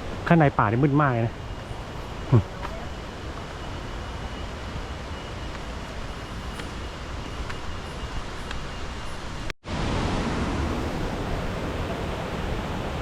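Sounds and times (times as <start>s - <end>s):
rushing water of stream: 0.0s - 13.0s.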